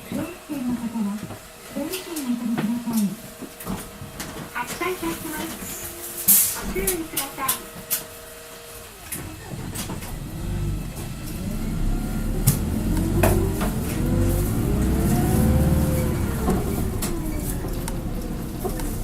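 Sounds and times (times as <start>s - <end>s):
bus engine accelerating: 0.0s - 19.0s.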